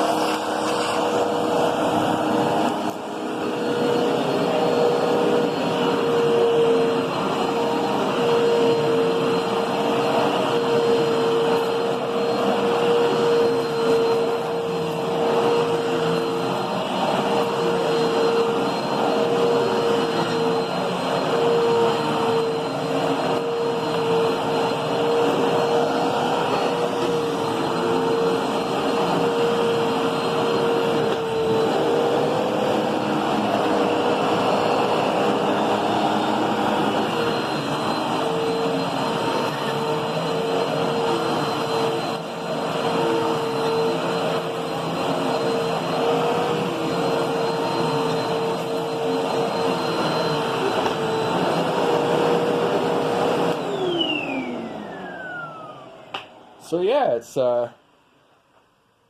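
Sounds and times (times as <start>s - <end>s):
vacuum cleaner motor whine: 0.0s - 57.2s.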